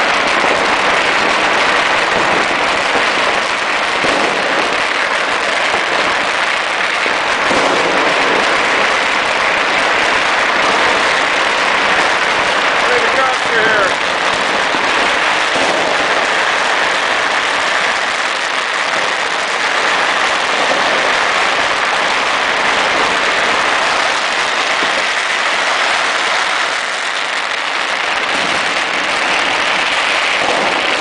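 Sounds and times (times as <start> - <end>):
firecrackers crackling: 0.0 - 31.0.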